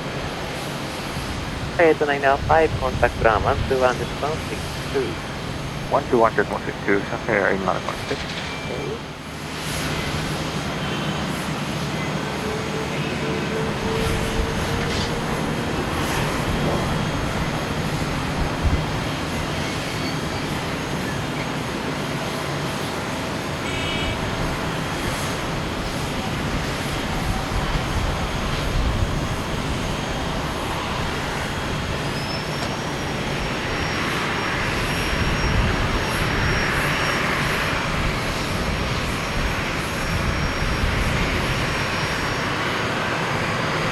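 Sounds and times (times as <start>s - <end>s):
jet engines rumbling: 0.0s - 23.6s, 24.2s - 43.9s.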